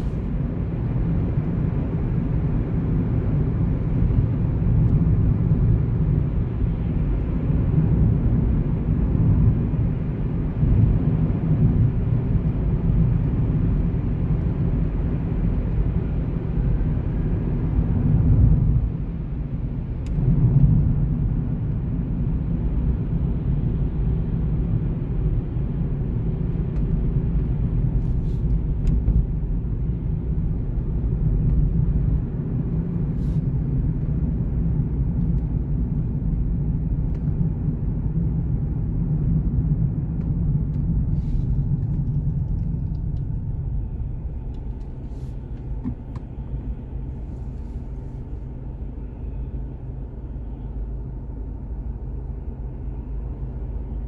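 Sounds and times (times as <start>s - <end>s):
car engine rumble: 0.0s - 54.0s
tyres on the road: 0.0s - 54.0s.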